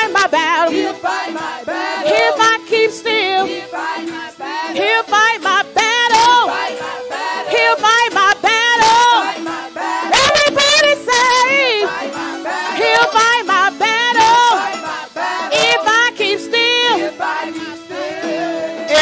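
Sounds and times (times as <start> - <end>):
lead voice with wide vibrato: 0.0 - 19.0
women's choir singing gospel: 0.0 - 19.0.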